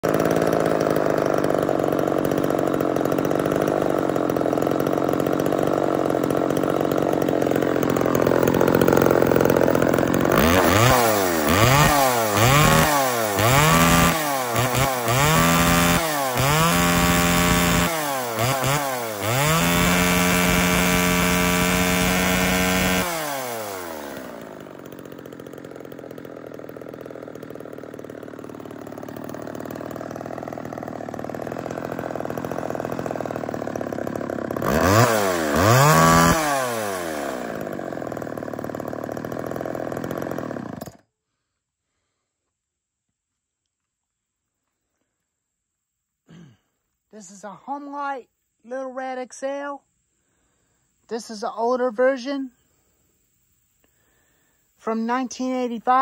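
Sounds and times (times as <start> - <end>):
chainsaw idling and revving: 0.0 - 41.4, 46.3 - 46.6, 47.2 - 56.0.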